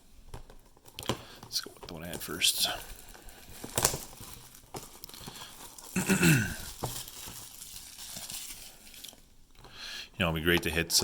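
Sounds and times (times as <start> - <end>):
plastic wrapper crinkling and tearing: 0.4 - 9.4.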